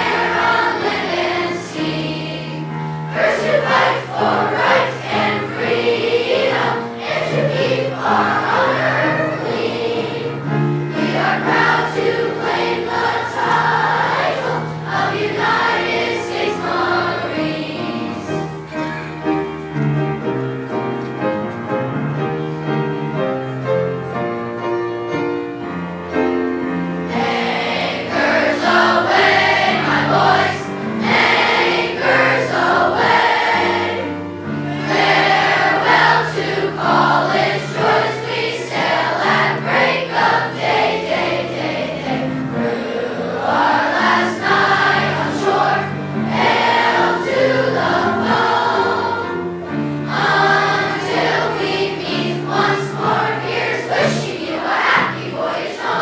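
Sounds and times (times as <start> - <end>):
children's choir singing: 0.0 - 56.0
instrumental accompaniment: 0.0 - 56.0.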